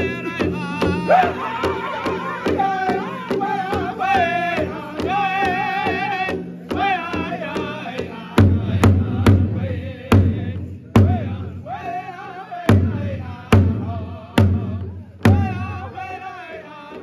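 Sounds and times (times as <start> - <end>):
group singing in high voices: 0.0 - 9.8, 11.2 - 17.0
large hand drum beating: 0.0 - 16.2.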